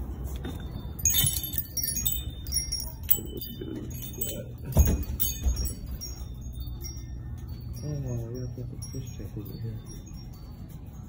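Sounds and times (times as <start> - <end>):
door bells jingling: 0.0 - 11.0.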